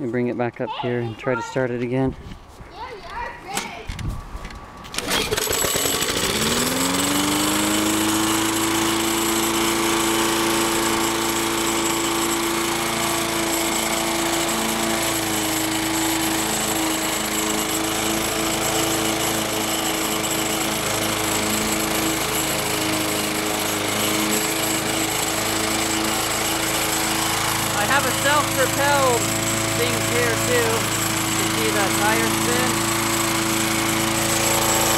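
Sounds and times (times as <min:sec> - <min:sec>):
lawn mower engine running: 0:04.5 - 0:34.9.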